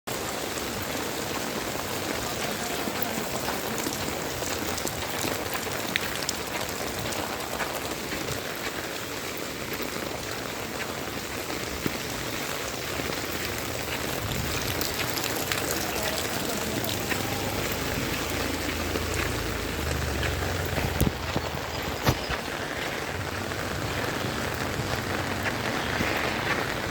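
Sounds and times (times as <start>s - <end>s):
heavy rain falling: 0.1s - 26.9s.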